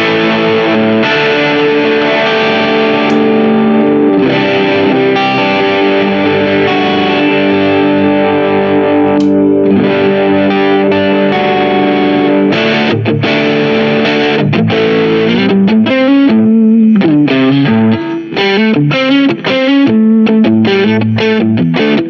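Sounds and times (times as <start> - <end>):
distorted electric guitar chords: 0.0 - 22.0
guitar pick scratch: 0.0 - 22.0.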